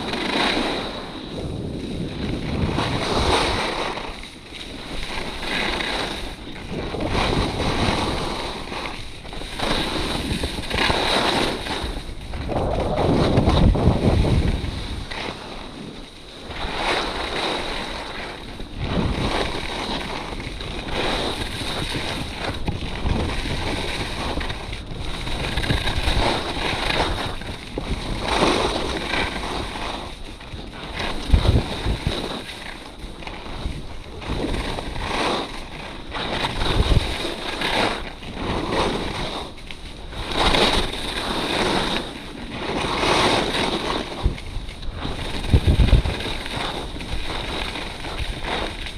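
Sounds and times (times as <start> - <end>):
ski edges scraping snow: 0.0 - 48.9
wind buffeting microphone: 0.0 - 48.9.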